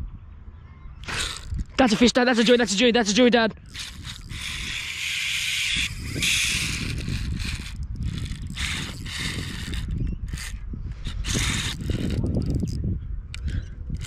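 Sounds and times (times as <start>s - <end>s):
fishing reel drag buzzing: 1.0s - 14.0s.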